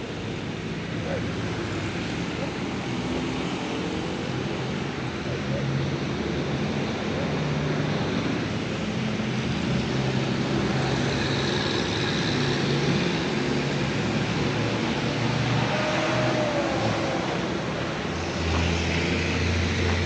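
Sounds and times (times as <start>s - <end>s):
road noise hiss: 0.0s - 20.0s.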